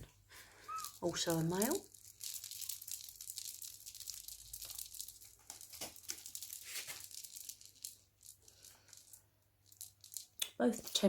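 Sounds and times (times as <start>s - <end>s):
rustling and crinkling handling: 0.0s - 11.0s.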